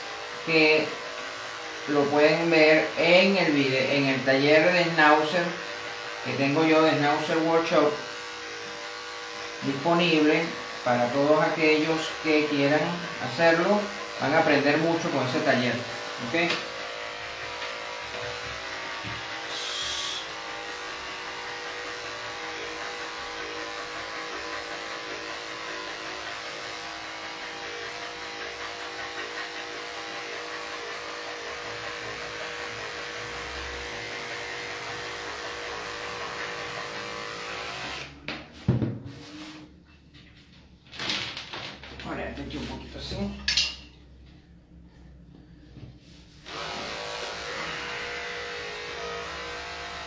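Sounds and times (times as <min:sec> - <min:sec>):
electric clipper humming: 0:00.0 - 0:38.5, 0:46.4 - 0:50.0.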